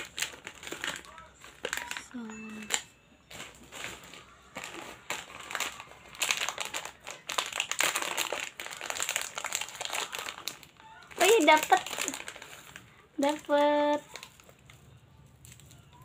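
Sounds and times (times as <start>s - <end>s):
plastic snack packet crinkling: 0.0s - 16.0s.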